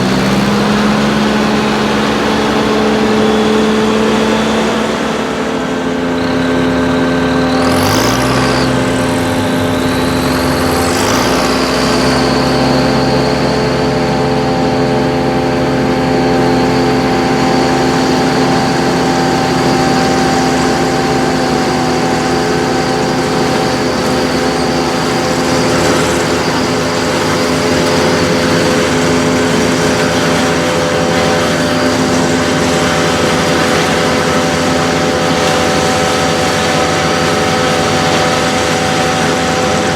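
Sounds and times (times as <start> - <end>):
high whine: 0.0 - 39.9
tractor engines running: 0.0 - 39.9.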